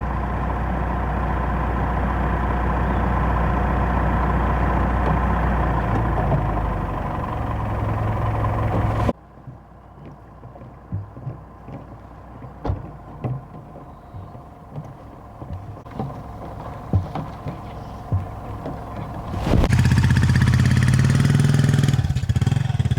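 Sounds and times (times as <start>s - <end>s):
engine droning: 0.0s - 22.9s.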